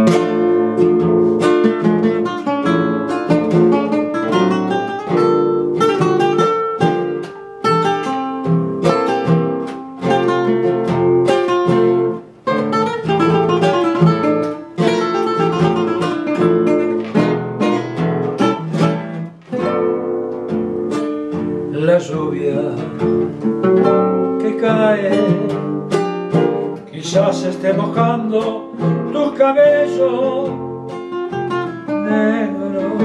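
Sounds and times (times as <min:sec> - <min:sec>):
acoustic guitars playing: 0:00.0 - 0:33.0.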